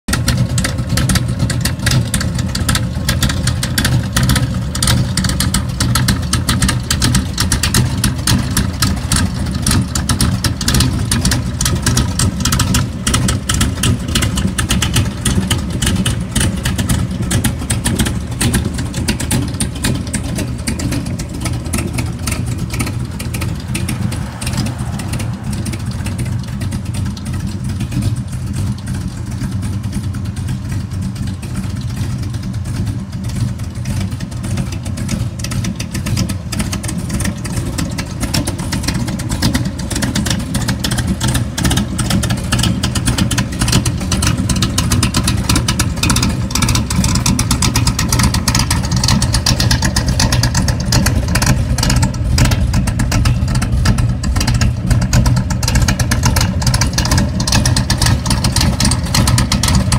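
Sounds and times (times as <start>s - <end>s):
car engine idling loudly: 0.0s - 59.9s.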